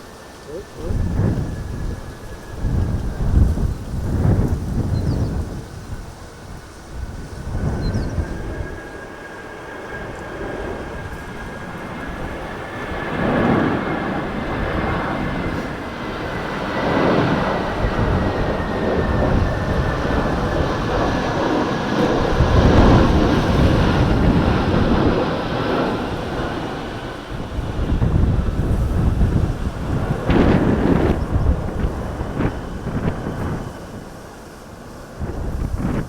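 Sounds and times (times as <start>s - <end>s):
jet engines whining: 0.0s - 36.0s
wind on microphone: 0.0s - 36.0s.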